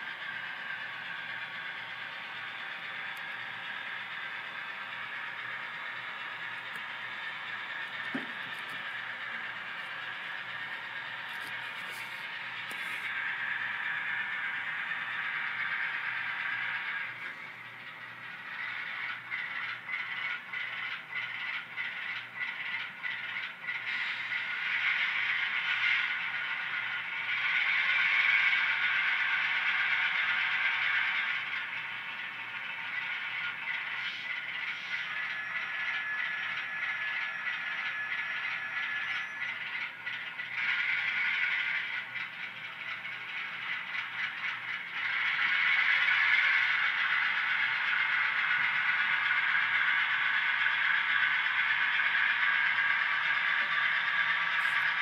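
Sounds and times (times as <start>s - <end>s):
model train hissing rattle: 0.0s - 55.0s.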